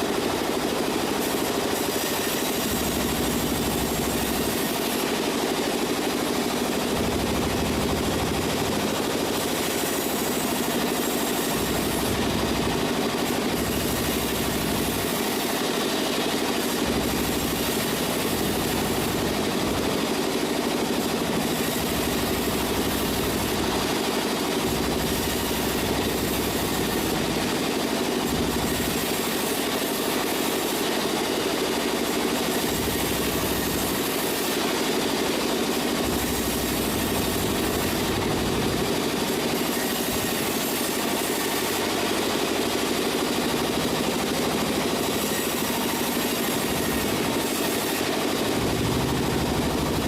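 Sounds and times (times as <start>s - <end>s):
sawmill machinery humming: 0.0s - 50.0s.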